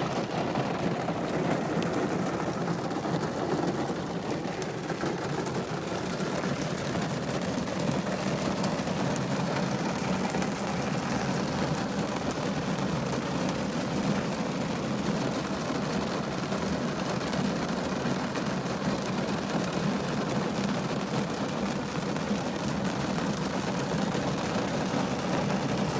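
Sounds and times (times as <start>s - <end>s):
rain on car roof: 0.0s - 25.9s.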